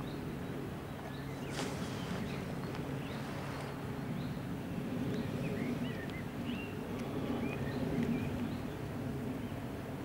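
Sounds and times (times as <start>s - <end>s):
small birds chirping: 0.0s - 9.6s
steady low rumble: 0.0s - 10.0s.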